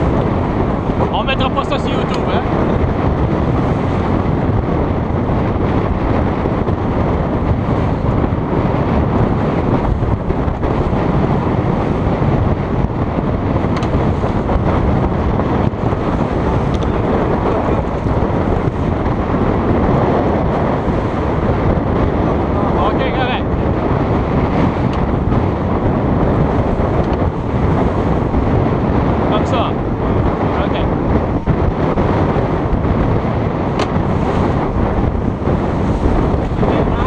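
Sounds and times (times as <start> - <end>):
water rushing along hulls: 0.0 - 37.0
wind buffeting microphone: 0.0 - 37.0.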